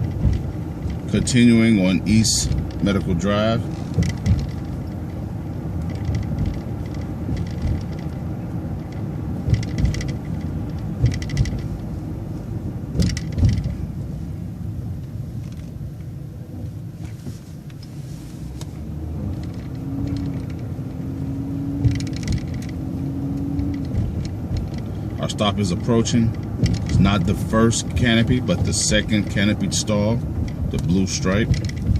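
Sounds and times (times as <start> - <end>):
rattling: 0.0 - 14.1, 18.6 - 31.9
bus engine and road rumble: 0.0 - 31.9.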